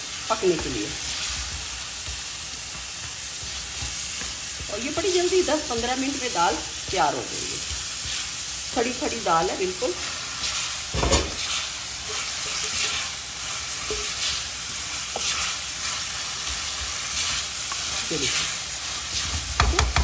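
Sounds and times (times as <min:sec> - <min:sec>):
lentils sizzling in a pan: 0:00.0 - 0:20.0
spatula stirring and scraping: 0:00.4 - 0:20.0.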